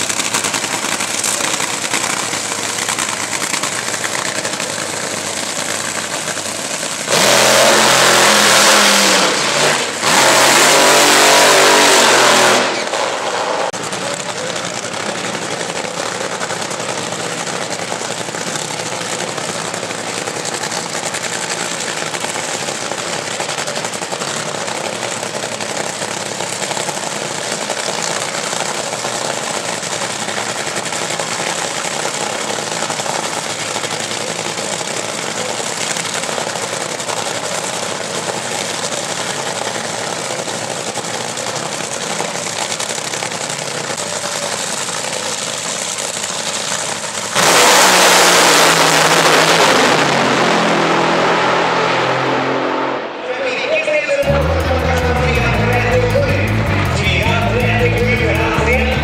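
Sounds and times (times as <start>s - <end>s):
dragster engines idling with crackle: 0.0s - 51.8s, 53.5s - 59.0s.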